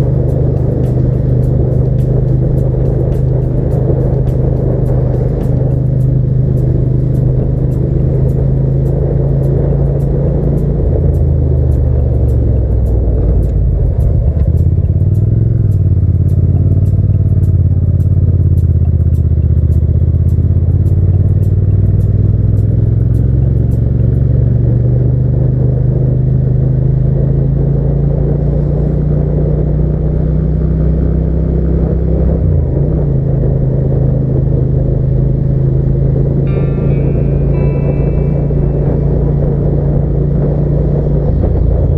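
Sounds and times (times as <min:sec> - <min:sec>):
motorcycle engine while riding: 0:00.0 - 0:41.9.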